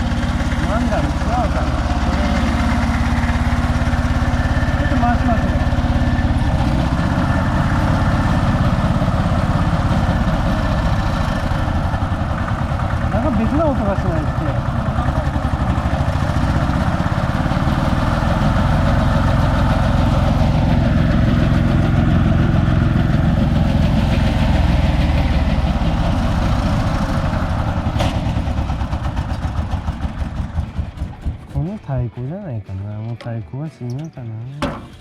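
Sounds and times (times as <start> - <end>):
harvester engine running: 0.0 - 35.0.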